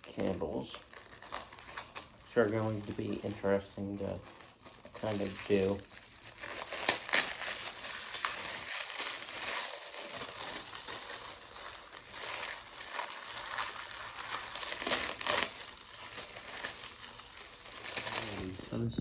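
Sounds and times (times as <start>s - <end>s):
packaging crinkling: 0.0s - 18.9s.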